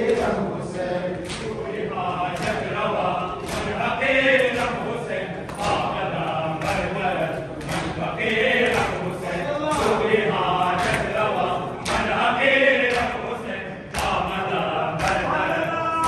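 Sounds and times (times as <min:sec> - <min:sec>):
chest-beating in unison: 0:00.0 - 0:16.0
crowd of men chanting: 0:00.0 - 0:16.0.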